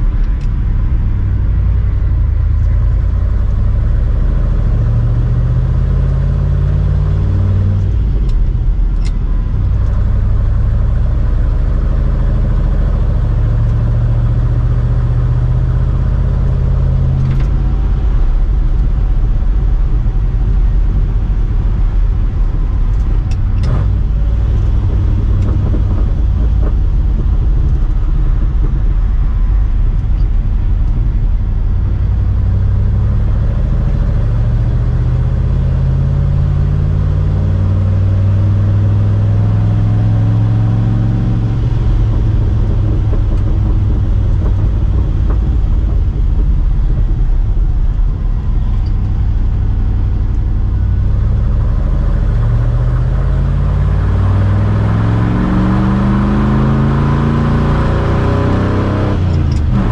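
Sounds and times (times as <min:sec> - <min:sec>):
road and tyre noise: 0:00.0 - 0:59.9
truck engine and exhaust: 0:00.0 - 0:59.9.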